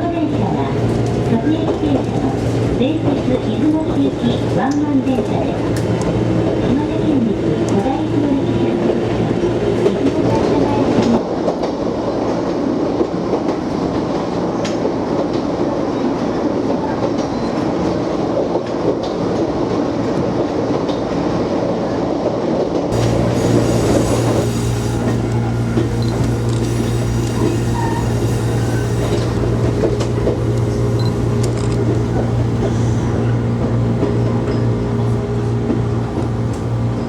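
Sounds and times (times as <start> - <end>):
electric train rumbling on track: 0.0 - 37.0.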